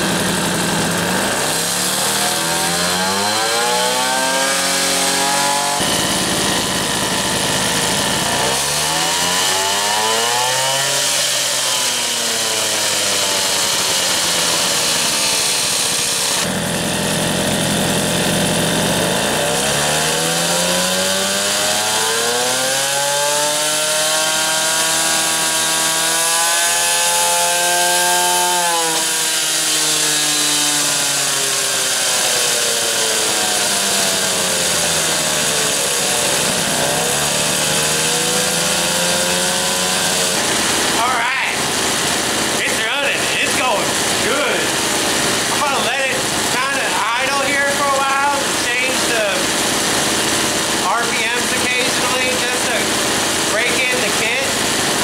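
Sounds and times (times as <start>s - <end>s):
moped engine revving: 0.0s - 55.0s.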